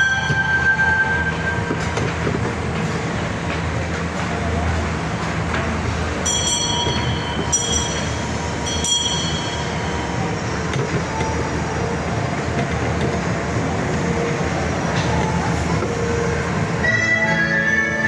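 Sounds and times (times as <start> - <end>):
ride-on train low rumble: 0.0 - 18.0.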